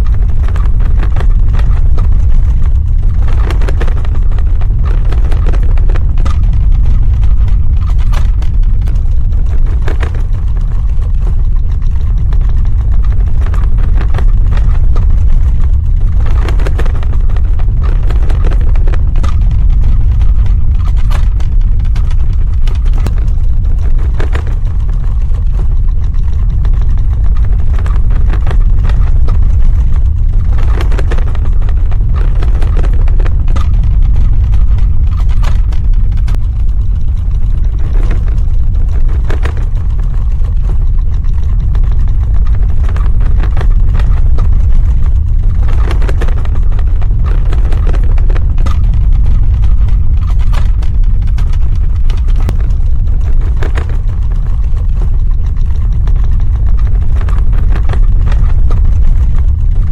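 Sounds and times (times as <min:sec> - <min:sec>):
crackles and knocks: 0:00.0 - 0:59.9
deep rumble: 0:00.0 - 0:59.9.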